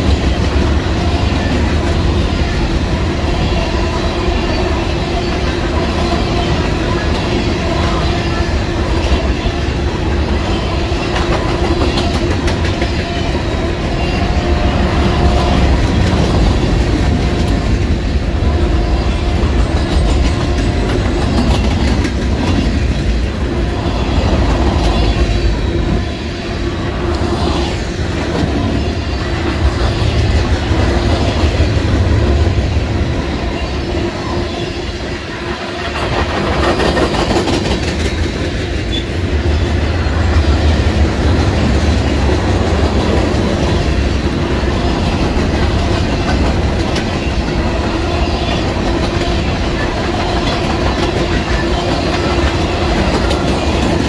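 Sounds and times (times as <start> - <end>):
clickety-clack of wheels: 0.0 - 54.0
freight cars rumbling on rail: 0.0 - 54.0.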